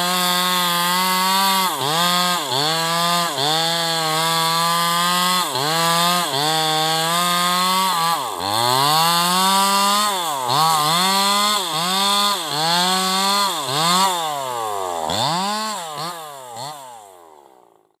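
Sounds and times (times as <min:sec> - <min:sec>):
chainsaw running at high revs: 0:00.0 - 0:18.0.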